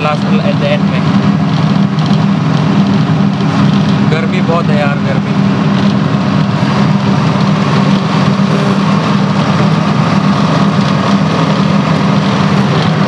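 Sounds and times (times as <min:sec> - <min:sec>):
road noise: 0:00.0 - 0:13.0
truck engine droning: 0:00.0 - 0:13.0.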